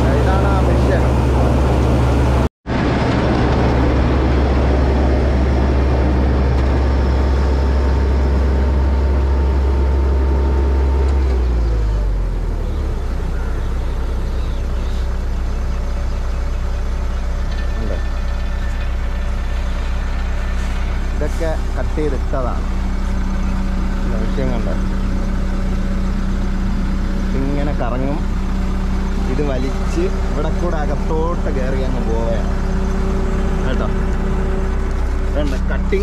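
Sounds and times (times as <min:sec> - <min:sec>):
combine harvester engine droning: 0:00.0 - 0:36.0.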